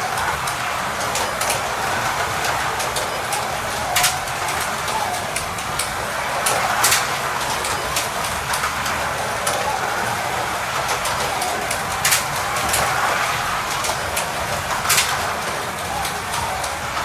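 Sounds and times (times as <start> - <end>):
slot car motors whining: 0.0 - 17.0.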